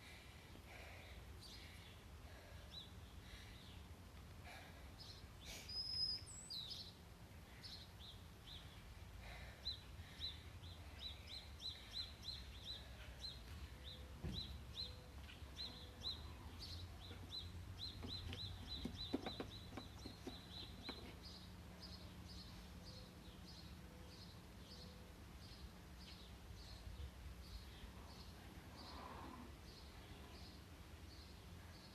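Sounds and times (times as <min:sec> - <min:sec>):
low steady hum: 0:00.0 - 0:31.9
bird chirping: 0:05.0 - 0:31.9.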